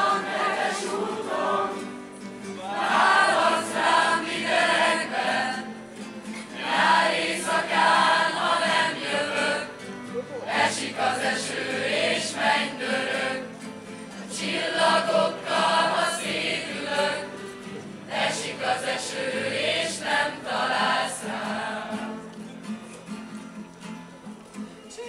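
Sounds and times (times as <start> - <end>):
choir of young voices singing: 0.0 - 22.2
strummed acoustic guitars: 0.0 - 25.0.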